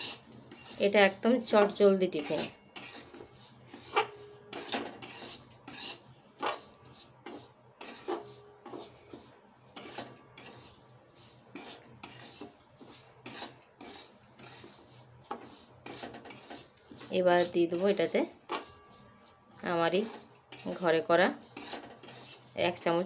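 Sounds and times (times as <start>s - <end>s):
metal spatula scraping a pan: 0.0s - 23.0s.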